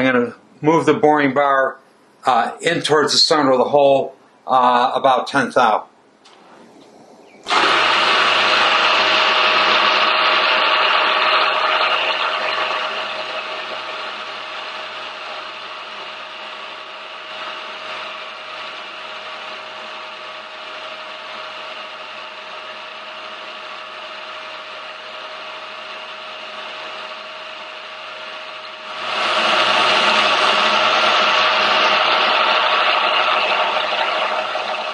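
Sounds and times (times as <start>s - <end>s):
milling machine whining hum: 6.3s - 34.9s.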